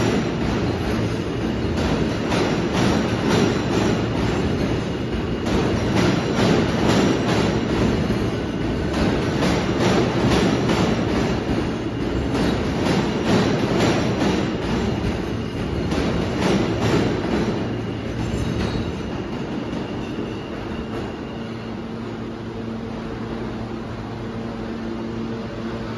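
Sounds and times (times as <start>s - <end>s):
subway train wheels clacking: 0.0s - 25.9s.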